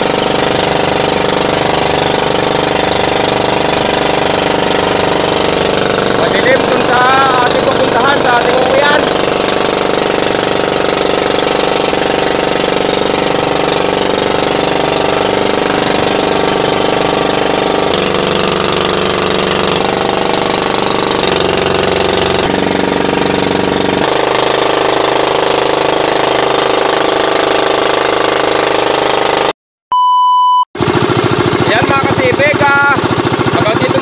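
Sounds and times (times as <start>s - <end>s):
boat engine thudding: 0.0s - 29.4s, 30.8s - 34.0s.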